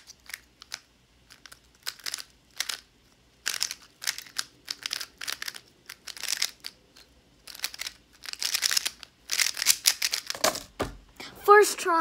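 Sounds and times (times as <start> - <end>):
plastic puzzle cube clacking: 0.0 - 10.8.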